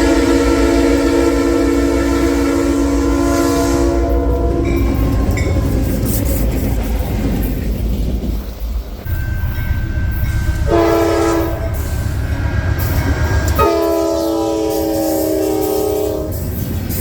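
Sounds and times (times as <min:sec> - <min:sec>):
locomotive chime horn: 0:00.0 - 0:06.4, 0:09.1 - 0:16.8
train rumble: 0:00.0 - 0:17.0.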